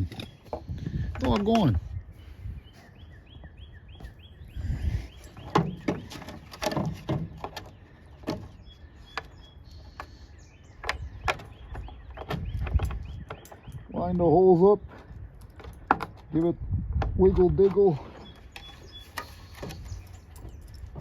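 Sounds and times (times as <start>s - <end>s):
bird chirping: 0.0s - 16.4s, 17.8s - 21.0s.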